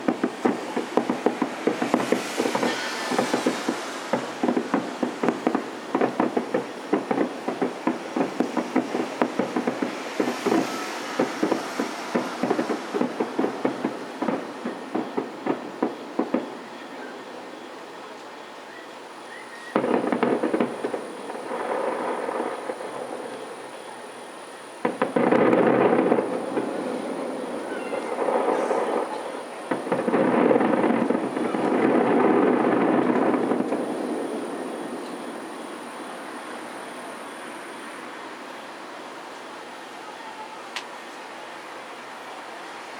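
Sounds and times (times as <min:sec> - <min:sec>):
distant muffled firework bangs: 0:00.0 - 0:18.4, 0:19.2 - 0:41.0.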